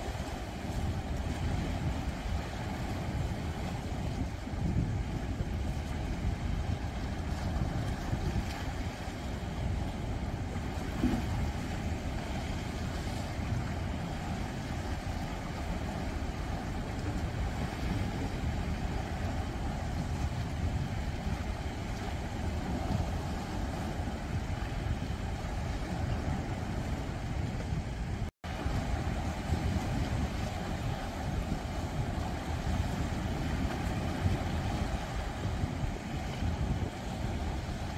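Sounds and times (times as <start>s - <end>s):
waves washing against rocks: 0.0s - 37.9s.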